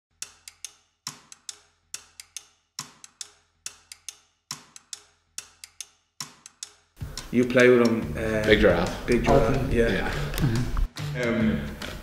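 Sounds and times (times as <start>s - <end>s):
wood-block-like clicks: 0.1s - 12.0s.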